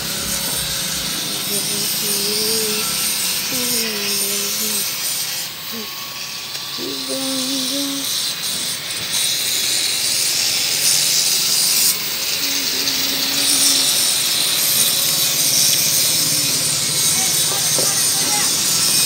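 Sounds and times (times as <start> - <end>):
power tool rasping and hissing: 0.0 - 19.0.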